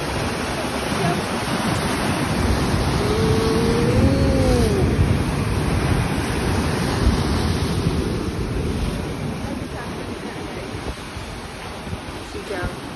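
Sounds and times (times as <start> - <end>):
heavy surf crashing on rocks: 0.0 - 12.9
wind buffeting microphone: 0.0 - 12.9.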